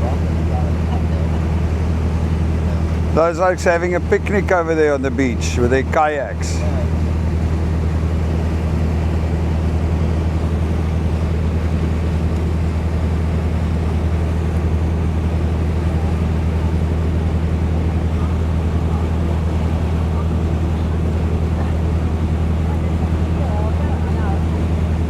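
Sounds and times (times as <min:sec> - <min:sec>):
boat engine humming: 0:00.0 - 0:25.0
water rushing: 0:00.0 - 0:25.0
wind: 0:00.0 - 0:25.0.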